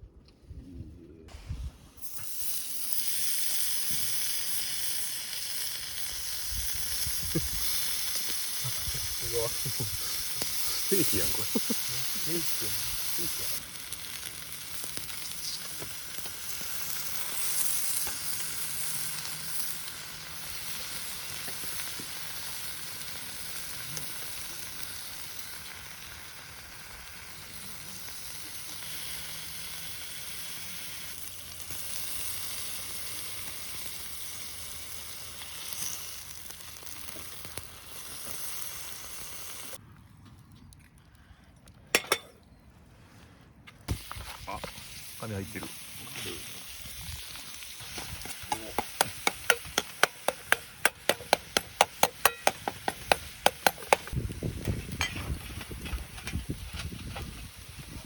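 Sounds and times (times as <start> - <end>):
meat sizzling in a wok: 2.0 - 39.8, 43.9 - 58.0.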